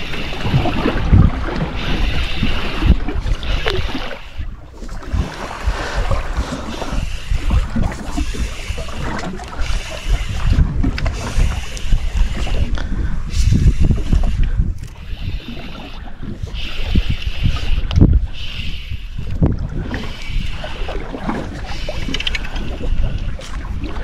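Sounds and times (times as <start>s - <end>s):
sea wash: 0.0s - 24.0s
wind buffeting microphone: 0.0s - 24.0s.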